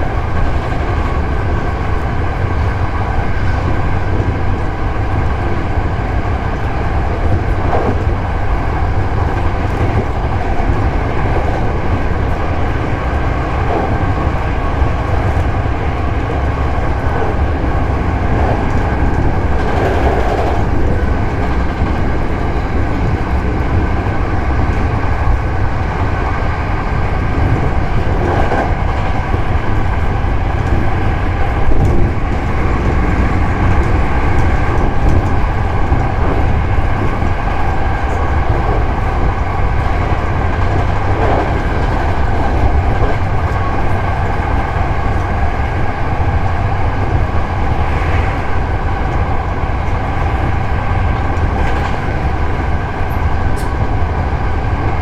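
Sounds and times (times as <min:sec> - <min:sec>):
train clatter: 0:00.0 - 0:55.0
train wheels rumbling on rail: 0:00.0 - 0:55.0.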